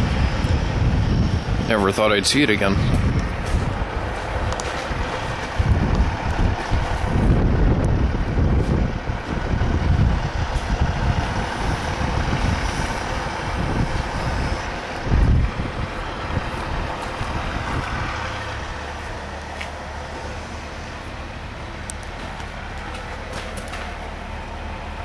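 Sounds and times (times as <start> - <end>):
heavy truck engine rumbling: 0.0 - 25.0
wind buffeting microphone: 0.0 - 25.0.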